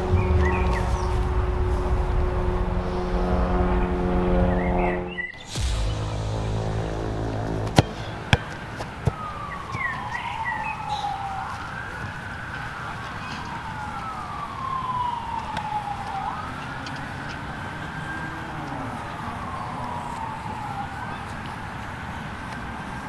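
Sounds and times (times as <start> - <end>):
siren wailing: 0.0 - 22.4.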